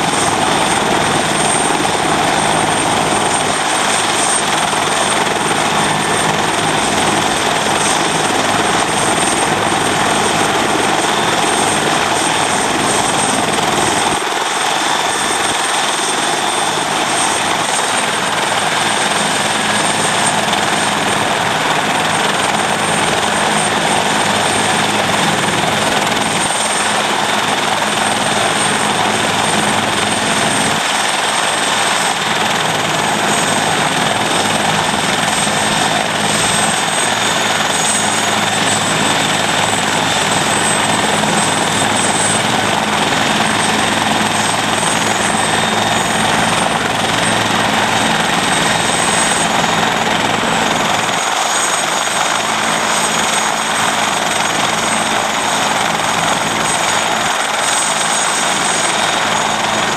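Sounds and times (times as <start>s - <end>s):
helicopter engine and rotors: 0.0s - 59.9s
high constant whistle: 0.0s - 59.9s.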